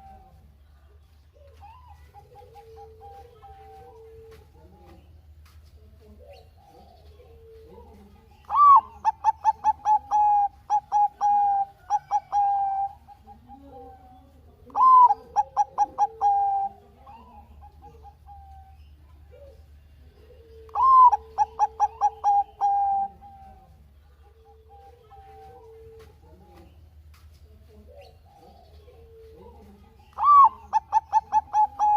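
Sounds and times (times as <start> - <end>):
dove cooing song: 0.0 - 31.9.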